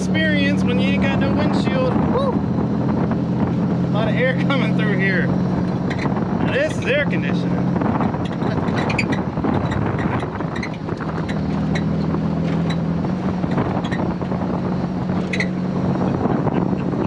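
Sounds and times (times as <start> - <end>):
race car engine cruising: 0.0 - 17.0
wind rushing over microphone: 0.0 - 17.0.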